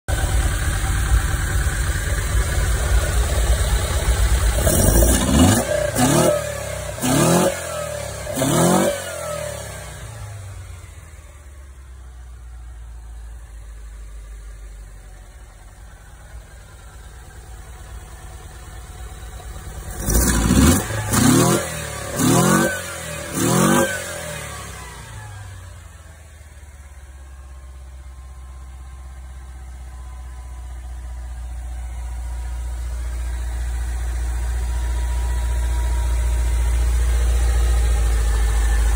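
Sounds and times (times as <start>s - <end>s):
car engine revving and idling: 0.1s - 38.9s.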